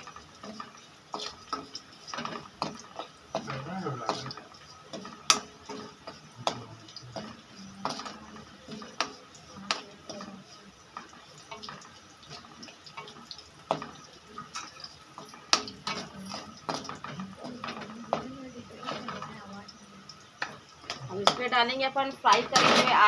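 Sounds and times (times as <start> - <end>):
frying in oil sizzle: 0.0 - 23.0
metal spoon stirring and scraping pan: 0.0 - 23.0.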